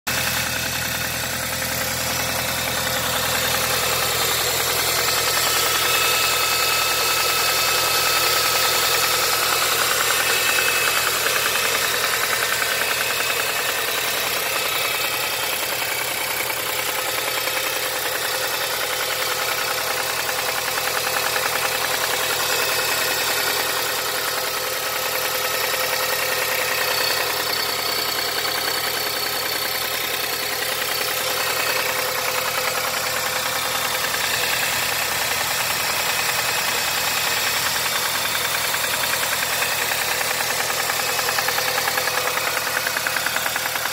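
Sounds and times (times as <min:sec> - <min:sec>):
car engine idling with a knock: 0:00.1 - 0:43.9.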